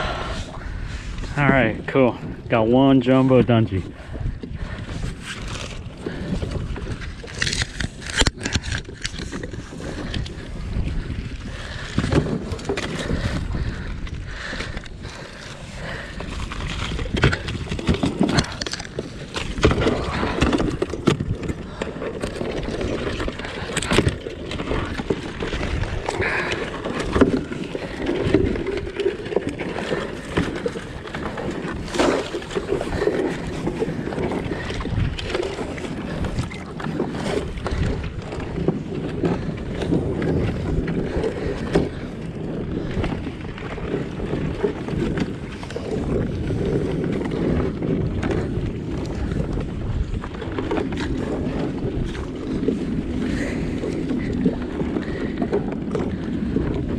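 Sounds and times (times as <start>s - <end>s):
microphone rumble: 0.0s - 56.9s
water sloshing around kayak: 0.0s - 56.9s.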